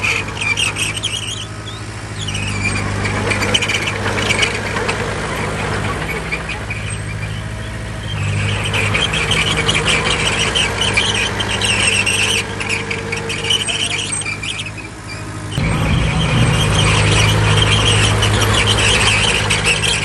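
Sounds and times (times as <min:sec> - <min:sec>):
diesel engine running: 0:00.0 - 0:20.0
steel tracks squealing and clanking: 0:00.0 - 0:20.0.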